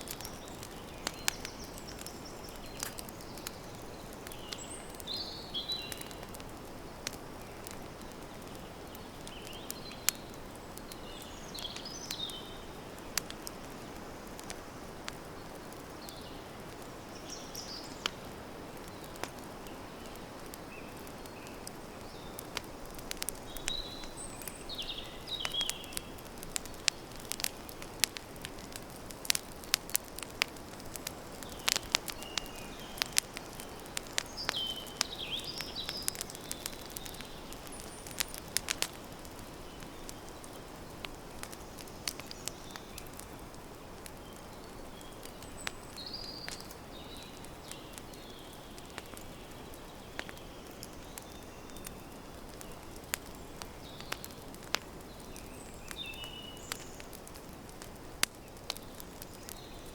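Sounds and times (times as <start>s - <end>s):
campfire crackling: 0.0s - 59.9s
small birds chirping: 0.0s - 59.9s.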